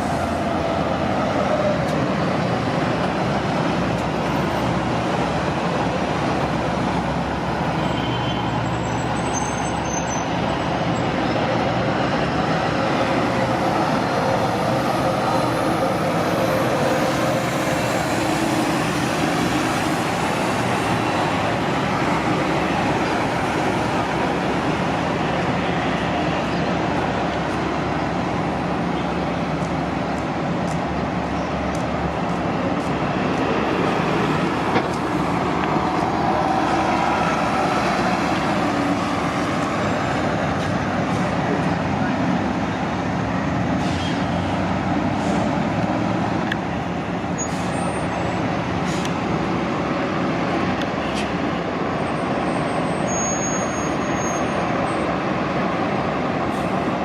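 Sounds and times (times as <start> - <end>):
bus engines rumbling: 0.0 - 57.0.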